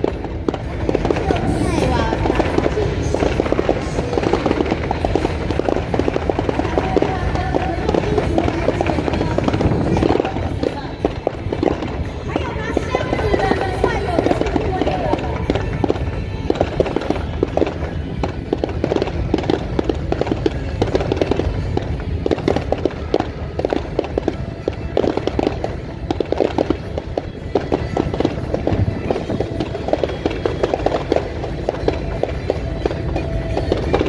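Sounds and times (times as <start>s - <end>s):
fireworks bursting and crackling: 0.0s - 34.0s
music playing: 0.0s - 34.0s.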